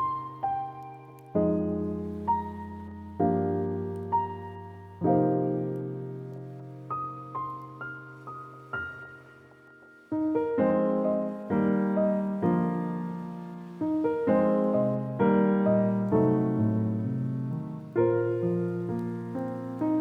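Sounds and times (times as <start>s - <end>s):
gentle piano chords: 0.0s - 20.0s.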